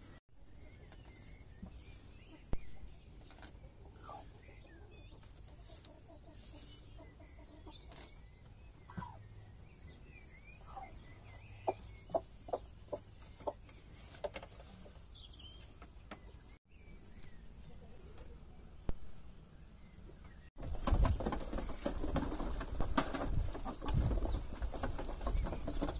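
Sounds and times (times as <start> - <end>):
chickens clucking: 0.5 - 16.4, 20.3 - 25.9.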